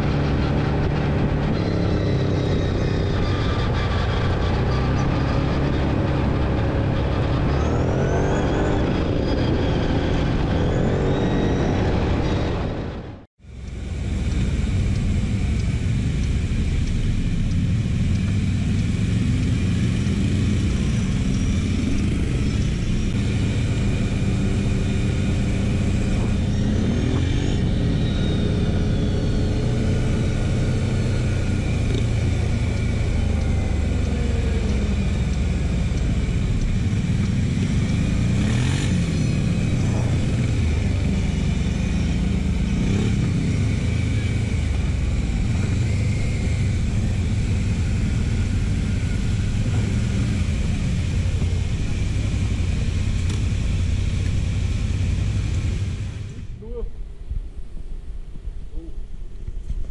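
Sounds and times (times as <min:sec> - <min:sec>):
quad engine revving: 0:00.0 - 0:12.4, 0:13.6 - 0:56.6.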